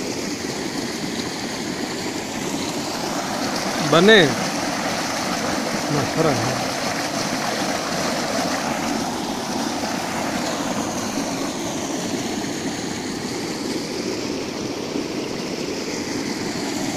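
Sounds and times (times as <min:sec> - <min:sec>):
stream rushing over rocks: 0:00.0 - 0:16.9.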